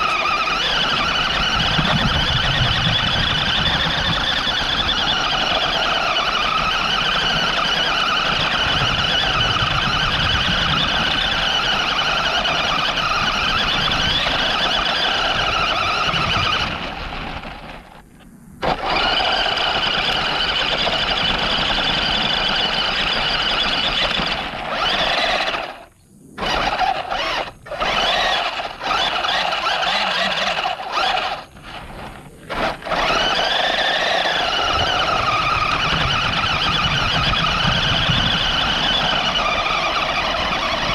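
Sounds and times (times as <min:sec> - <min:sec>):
rc car motor whining: 0:00.0 - 0:40.9.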